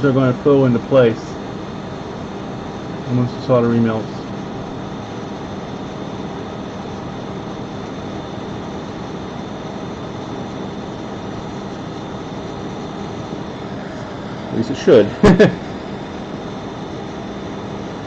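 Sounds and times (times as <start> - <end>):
hot-air station blowing air: 0.0 - 18.0.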